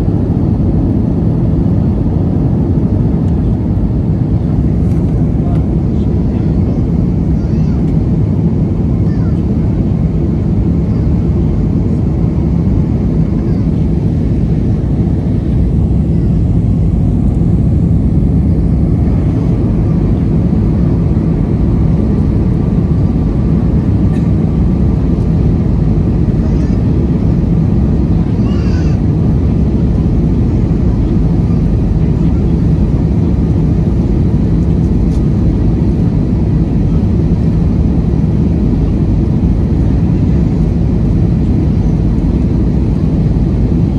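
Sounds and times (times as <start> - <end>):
jet airliner cabin rumble: 0.0 - 43.9.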